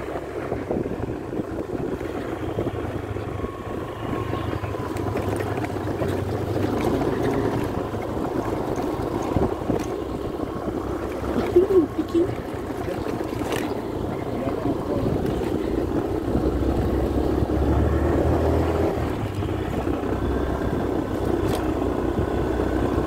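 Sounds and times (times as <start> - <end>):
small motorcycle engine: 0.0 - 23.0
wind on microphone: 0.0 - 23.0.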